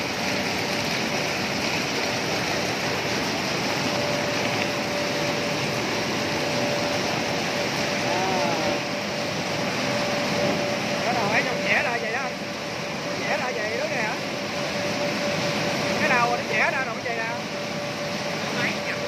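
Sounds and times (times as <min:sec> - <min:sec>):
processing line machinery din: 0:00.0 - 0:19.0
steady high whine: 0:00.0 - 0:19.0.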